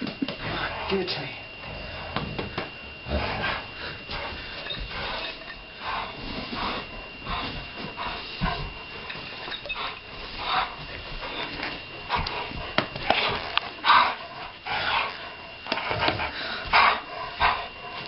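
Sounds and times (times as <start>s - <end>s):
dogs scuffling and rustling: 3.4s - 18.0s.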